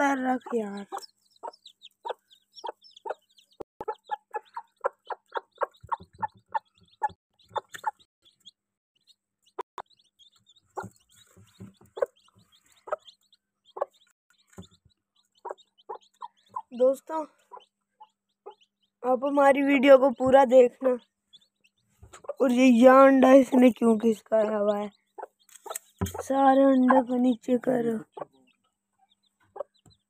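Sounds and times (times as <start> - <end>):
hen clucking: 0.0 - 8.5, 9.5 - 18.9, 21.3 - 23.6, 24.4 - 30.0.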